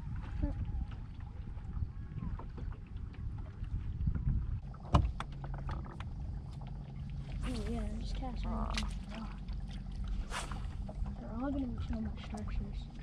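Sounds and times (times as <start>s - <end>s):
steady low hum: 0.0s - 13.0s
water and wind against hull: 0.0s - 13.0s.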